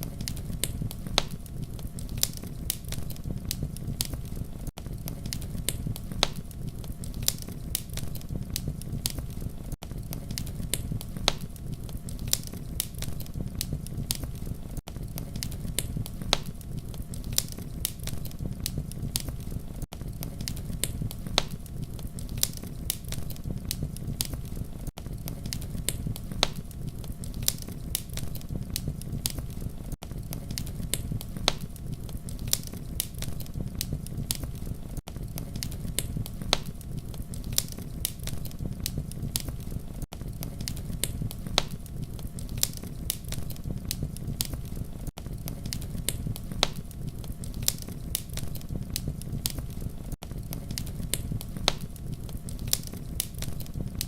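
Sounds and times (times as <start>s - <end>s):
low rumble of burning: 0.0s - 54.0s
wood fire crackling: 0.0s - 54.0s.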